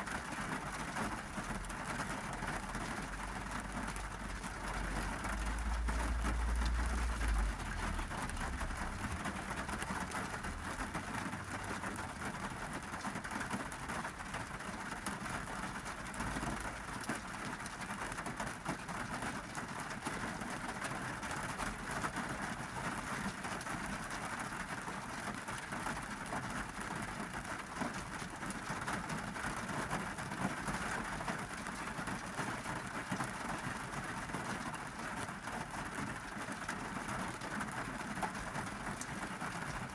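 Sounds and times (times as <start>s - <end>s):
rain drumming on car roof: 0.0s - 39.9s.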